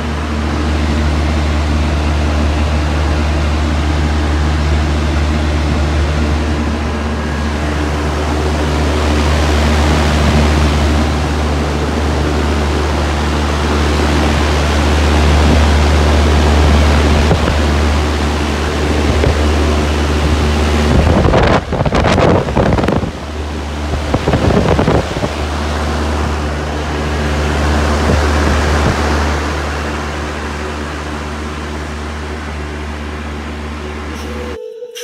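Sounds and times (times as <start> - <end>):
air conditioner fan rushing: 0.0 - 34.7
low steady hum: 0.0 - 35.0.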